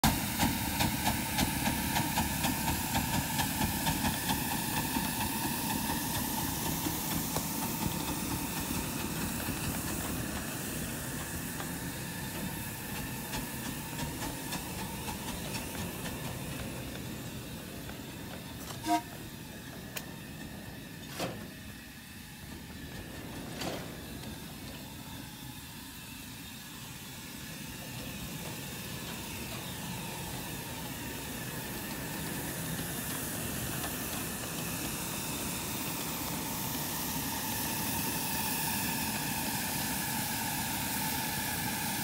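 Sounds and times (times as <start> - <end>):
steam locomotive hissing: 0.0 - 42.0.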